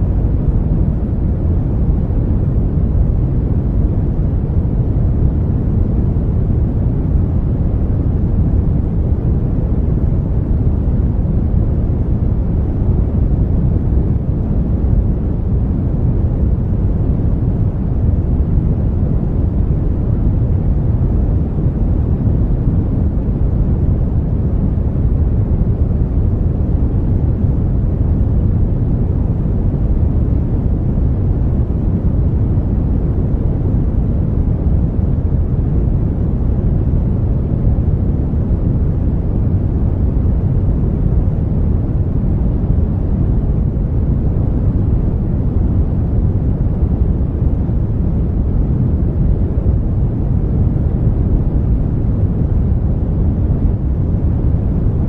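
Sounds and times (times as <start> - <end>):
brown noise: 0.0 - 55.0.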